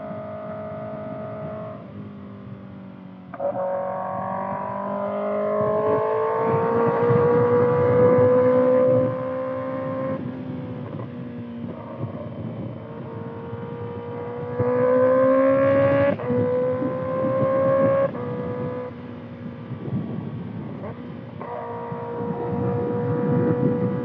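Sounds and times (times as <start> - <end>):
motorcycle engine while riding: 0.0 - 24.0.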